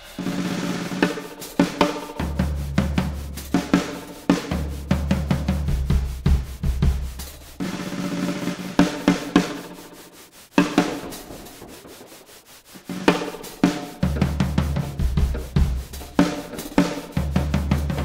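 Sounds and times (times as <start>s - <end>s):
drum kit played with sticks: 0.0s - 18.0s.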